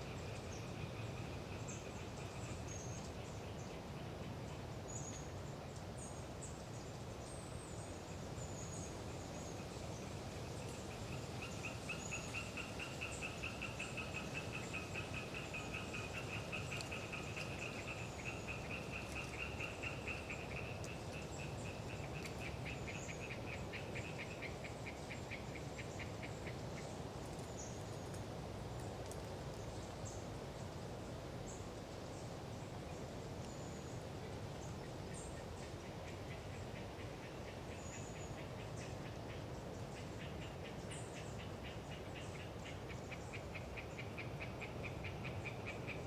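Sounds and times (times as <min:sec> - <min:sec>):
tree frogs calling: 0:00.0 - 0:46.0.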